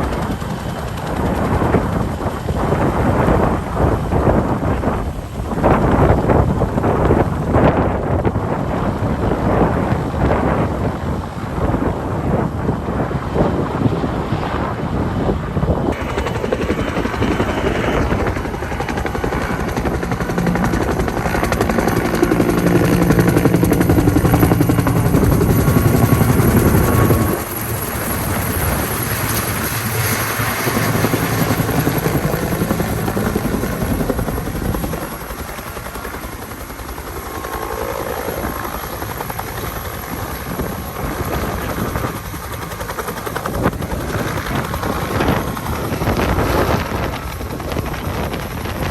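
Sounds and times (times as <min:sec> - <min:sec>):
helicopter rotor and engine: 0:00.0 - 0:48.9.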